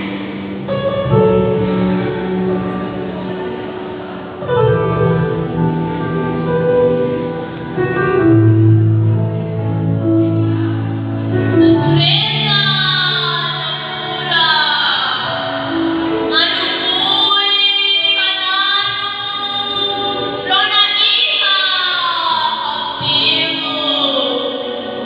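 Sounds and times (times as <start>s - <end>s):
music with sung melody: 0.0s - 25.0s.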